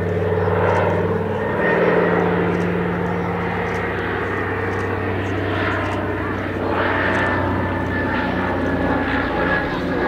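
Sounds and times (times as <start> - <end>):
propeller plane droning past: 0.0 - 10.0.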